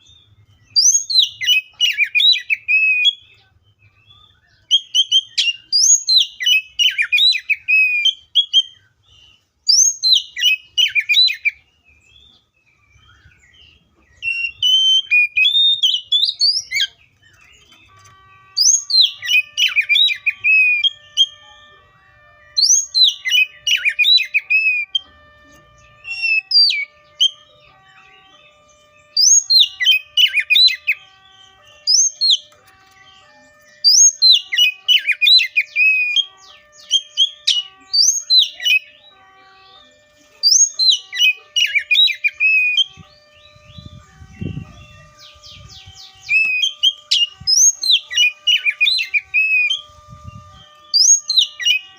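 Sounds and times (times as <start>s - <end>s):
bird singing whistled phrases: 0.0s - 21.6s, 22.5s - 51.9s.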